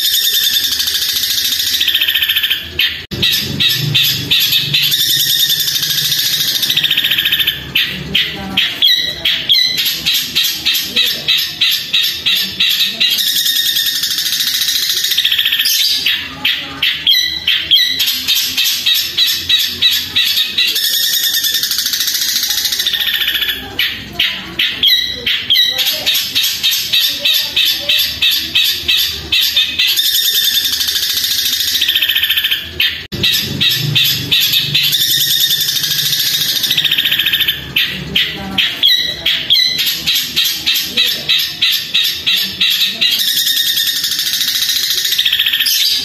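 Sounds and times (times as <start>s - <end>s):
bird singing fast repeated notes: 0.0s - 46.0s.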